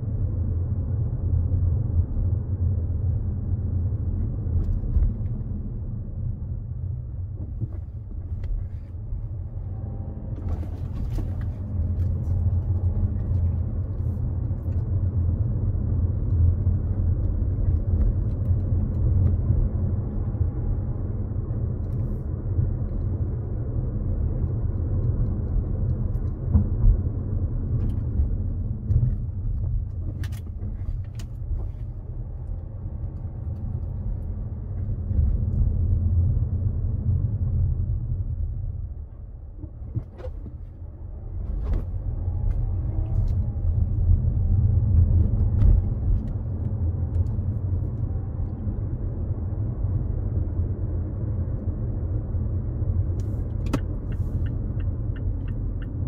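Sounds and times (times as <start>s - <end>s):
car engine rumble: 0.0s - 56.0s
tyres on paved road: 1.8s - 56.0s.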